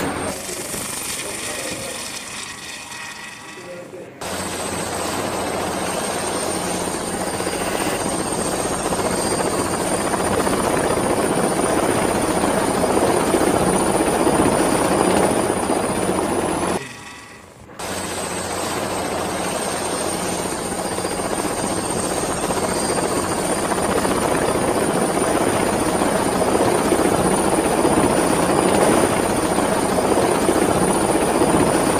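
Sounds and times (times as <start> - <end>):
helicopter rotor and engine: 0.0 - 31.9.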